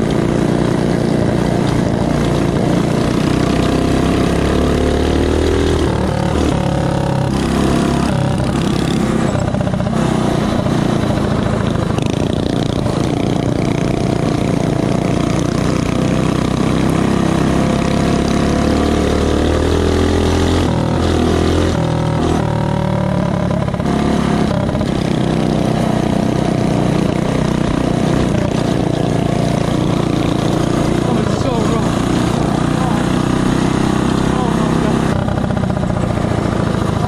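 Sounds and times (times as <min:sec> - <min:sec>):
small engine revving high: 0:00.0 - 0:37.0.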